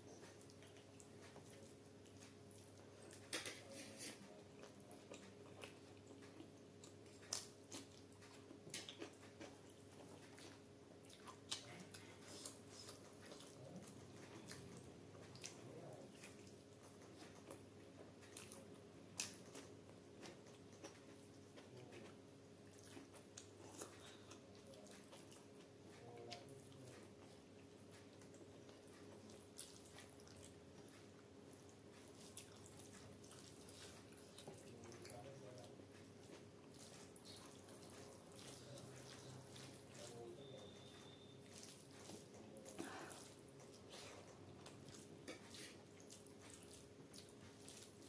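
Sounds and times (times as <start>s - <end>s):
chewing and wet mouth sounds: 0.0s - 48.0s.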